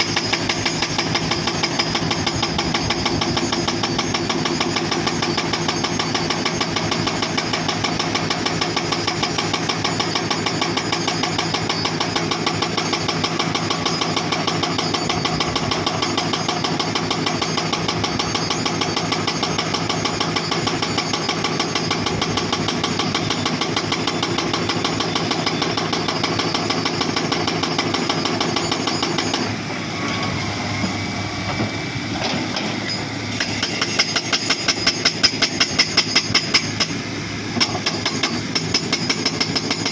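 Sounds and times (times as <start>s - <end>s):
hydraulic breaker hammering rock: 0.0s - 29.6s, 30.8s - 39.9s
excavator engine running: 0.0s - 39.9s.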